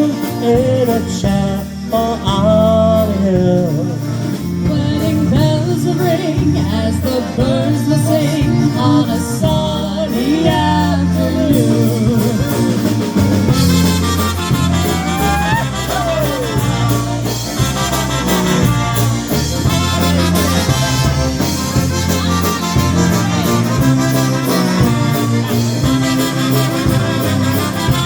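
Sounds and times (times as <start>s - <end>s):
polka band playing: 0.0s - 28.0s
steady bass beat: 0.6s - 28.0s.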